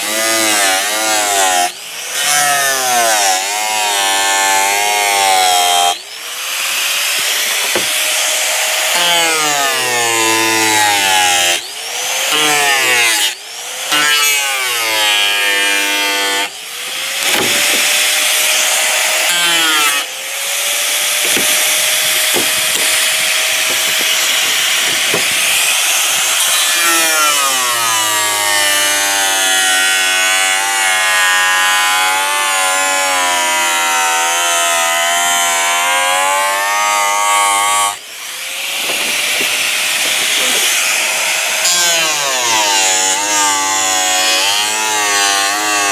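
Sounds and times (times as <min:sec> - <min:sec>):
angle grinder cutting plastic: 0:00.0 - 0:45.9.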